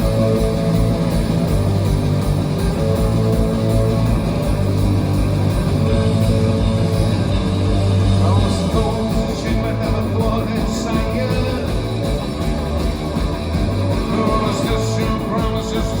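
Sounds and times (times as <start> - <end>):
bass and drums: 0.0 - 16.0
electric guitar: 0.0 - 16.0.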